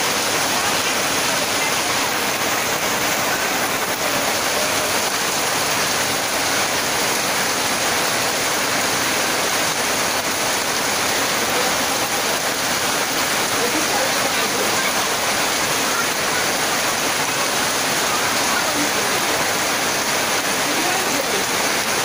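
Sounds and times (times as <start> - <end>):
heavy rain on a tin roof: 0.0 - 22.0.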